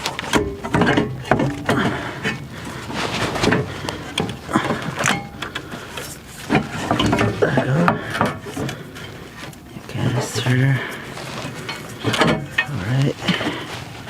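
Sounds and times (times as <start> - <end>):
plastic parts clicking and knocking: 0.0 - 9.8, 10.9 - 13.8.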